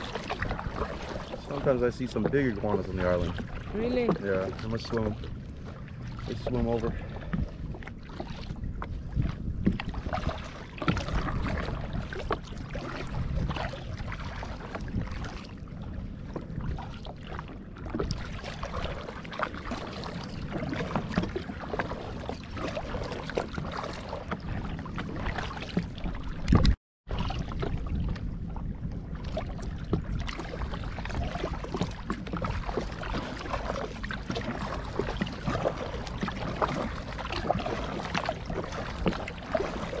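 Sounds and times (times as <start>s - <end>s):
paddle splashing in water: 0.0s - 40.0s
water sloshing against hull: 0.0s - 40.0s.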